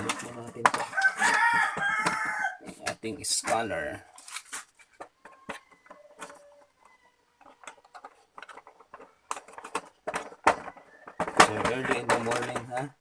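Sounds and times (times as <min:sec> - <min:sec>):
plastic clicks and knocks: 0:00.0 - 0:03.6, 0:04.9 - 0:12.9.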